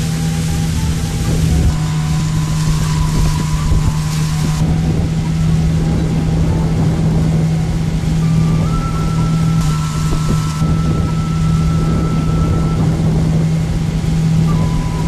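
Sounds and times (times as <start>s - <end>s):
outboard motor running: 0.0s - 15.0s
wind rumbling on microphone: 0.0s - 15.0s.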